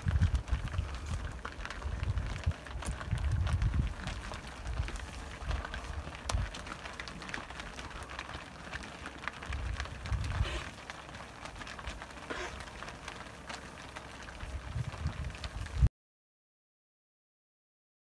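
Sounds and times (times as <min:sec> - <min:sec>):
cattle hooves on gravel: 0:00.0 - 0:15.9
low rumbles: 0:00.0 - 0:15.9.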